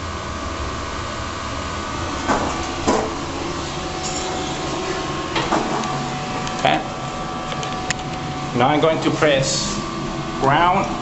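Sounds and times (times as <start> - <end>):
elevator rumble and hum: 0.0 - 11.0.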